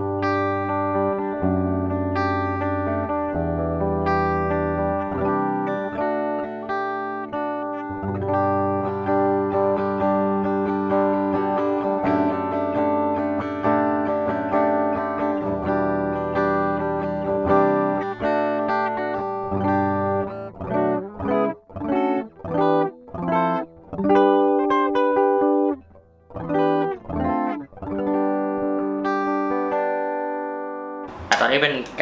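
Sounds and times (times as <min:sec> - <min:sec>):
clean electric guitar: 0:00.0 - 0:32.0.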